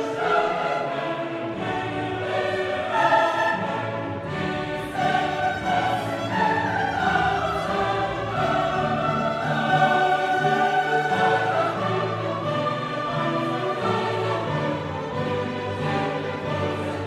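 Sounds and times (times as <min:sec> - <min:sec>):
choir singing with orchestra: 0:00.0 - 0:17.0.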